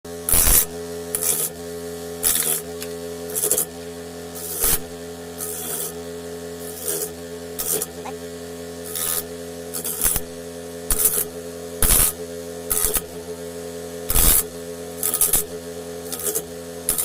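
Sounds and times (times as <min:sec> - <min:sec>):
electric grater motor humming: 0:00.1 - 0:17.0.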